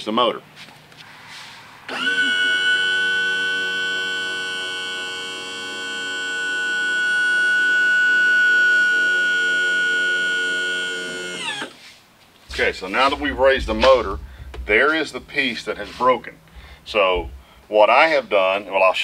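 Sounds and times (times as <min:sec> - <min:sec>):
hydraulic pump whining: 0:01.0 - 0:18.5.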